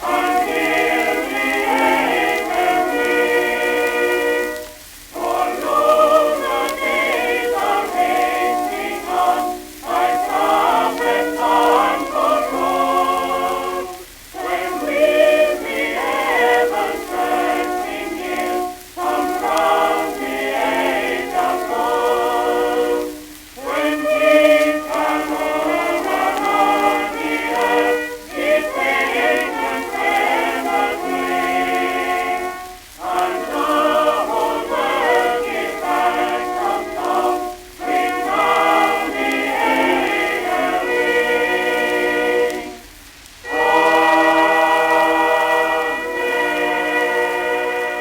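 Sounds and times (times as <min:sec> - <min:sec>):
choir singing on old record: 0:00.0 - 0:48.0
record hiss: 0:00.0 - 0:48.0.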